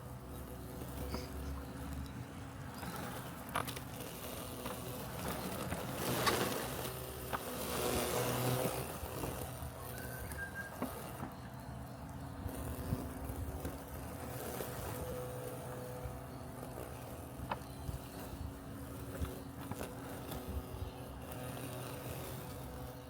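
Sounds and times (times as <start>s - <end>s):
robotic lawn mower humming: 0.0s - 23.0s.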